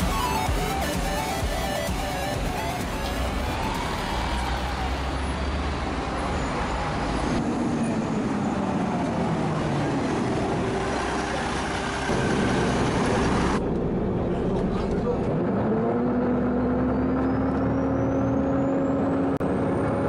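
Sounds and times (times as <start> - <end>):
motor vehicle engines: 0.0 - 20.0
traffic noise: 0.0 - 20.0.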